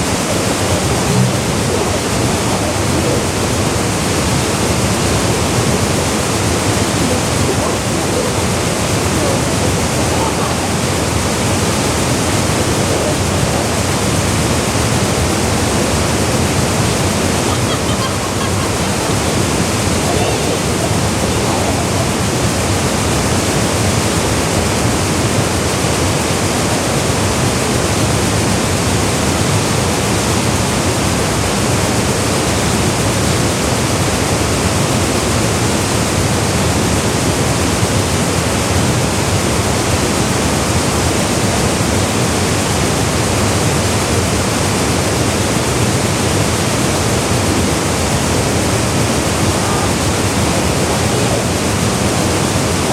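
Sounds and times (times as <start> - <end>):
waterfall rushing into a pool: 0.0 - 52.9.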